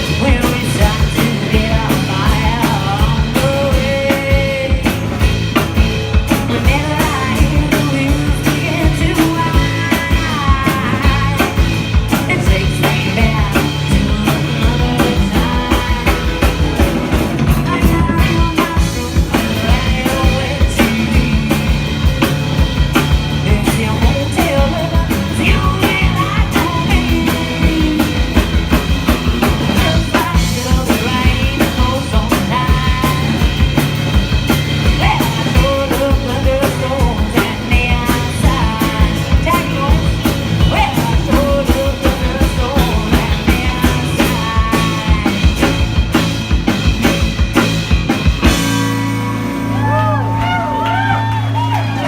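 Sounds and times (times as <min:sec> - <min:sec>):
drum kit beat: 0:00.0 - 0:52.0
live band playing: 0:00.0 - 0:52.0.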